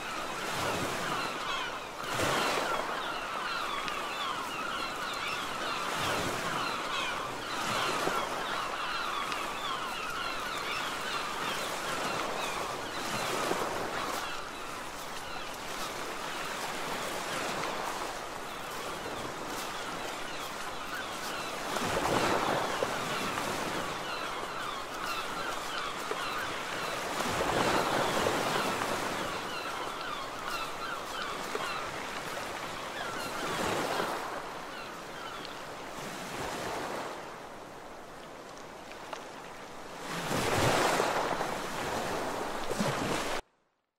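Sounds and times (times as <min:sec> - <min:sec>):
birds calling: 0:00.0 - 0:37.2
sea waves washing onto shore: 0:00.0 - 0:43.4.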